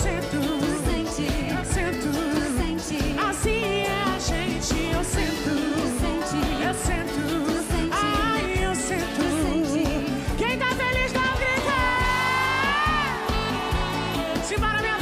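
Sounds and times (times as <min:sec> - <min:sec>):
live band playing pop song: 0:00.0 - 0:15.0
person singing: 0:00.0 - 0:15.0.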